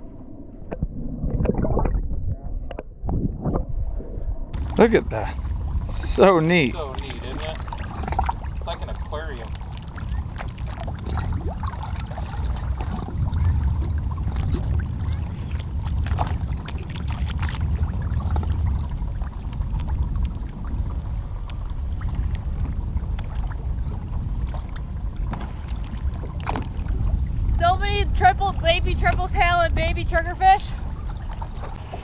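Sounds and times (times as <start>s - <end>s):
muffled underwater rumble: 0.0s - 32.0s.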